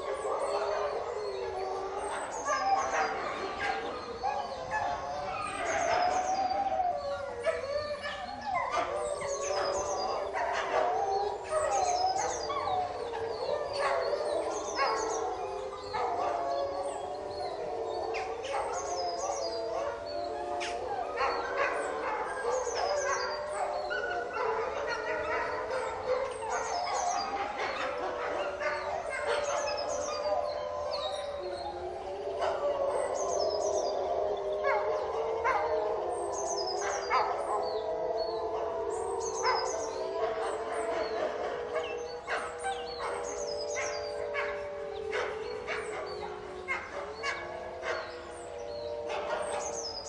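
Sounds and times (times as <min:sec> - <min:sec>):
wolf pack howling: 0:00.0 - 0:50.0.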